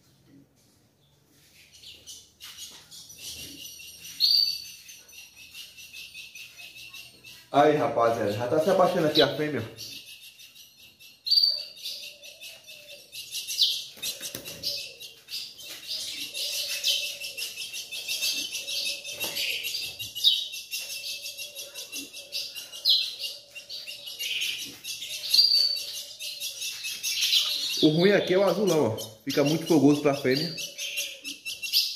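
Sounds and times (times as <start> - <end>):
caged birds twittering: 0.0 - 31.9.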